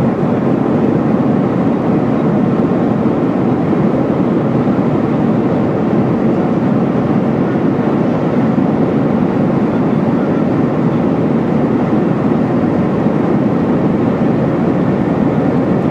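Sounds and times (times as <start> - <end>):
airplane cabin roar: 0.0 - 15.9.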